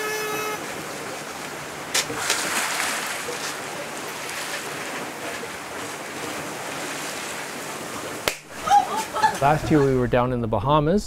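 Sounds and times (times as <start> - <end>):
sea water rushing: 0.0 - 10.1
wind: 0.0 - 11.0.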